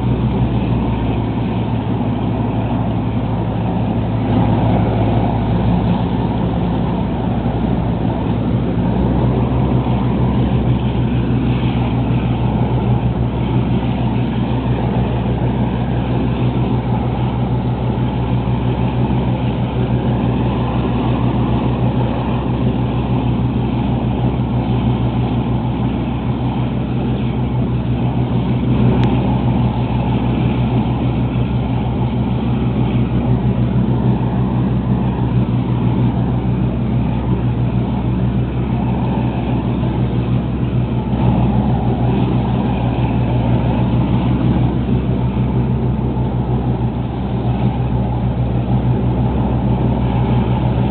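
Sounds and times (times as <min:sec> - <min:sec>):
boat engine droning: 0:00.0 - 0:50.9
water rushing past hull: 0:00.0 - 0:50.9.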